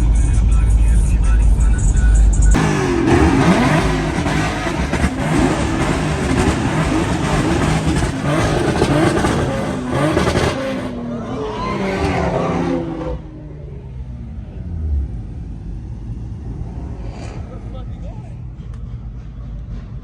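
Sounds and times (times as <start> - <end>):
car engines revving: 1.8 - 20.0.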